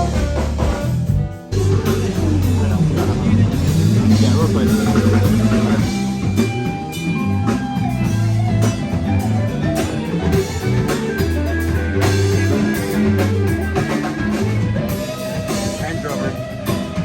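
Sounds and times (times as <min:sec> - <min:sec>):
live rock band playing: 0:00.0 - 0:17.0
long bass notes: 0:00.0 - 0:17.0.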